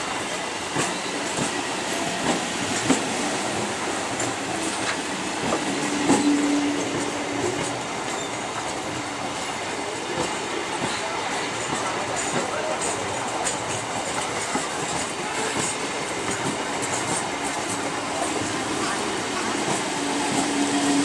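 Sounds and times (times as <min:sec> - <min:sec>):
train wheels clattering over rail joints: 0:00.3 - 0:21.0.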